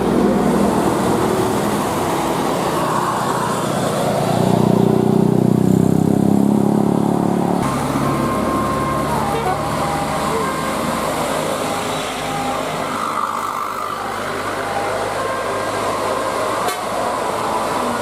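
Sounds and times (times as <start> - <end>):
heavy vehicle engine passing: 0.0 - 18.0
traffic noise: 0.0 - 18.0.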